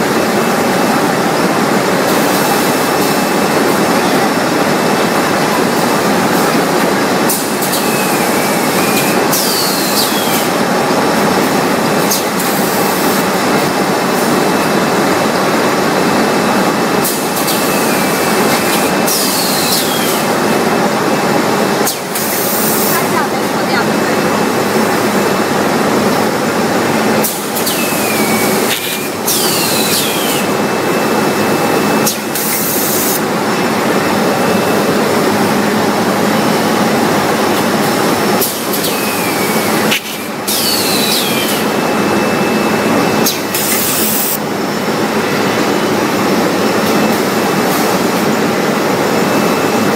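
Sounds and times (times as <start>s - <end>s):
packing machine running: 0.0s - 49.9s.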